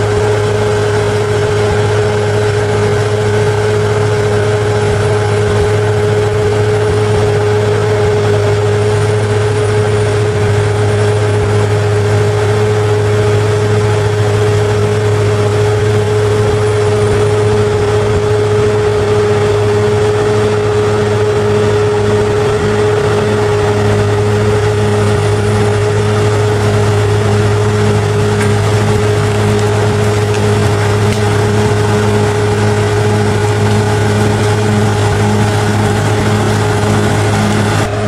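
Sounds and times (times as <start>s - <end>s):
bulldozer engine running: 0.0s - 38.0s.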